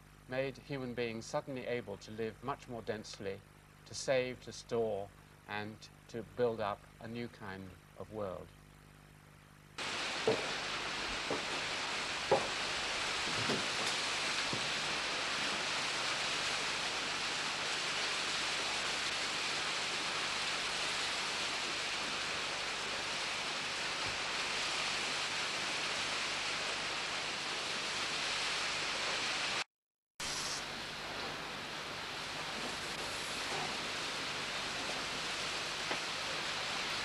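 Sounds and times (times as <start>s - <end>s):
steady hiss: 0.0s - 29.6s, 30.2s - 37.0s.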